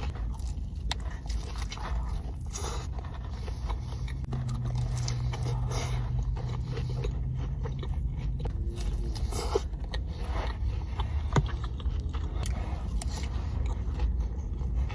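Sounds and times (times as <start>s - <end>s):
chewing with wet mouth clicks: 0.0s - 14.9s
steady low hum: 0.0s - 14.9s.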